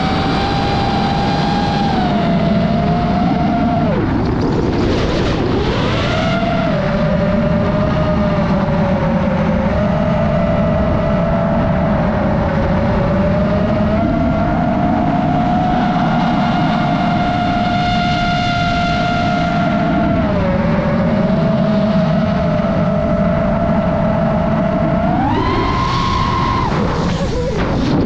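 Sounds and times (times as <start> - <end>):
drone motors whining: 0.0 - 28.0
wind noise: 0.0 - 28.0.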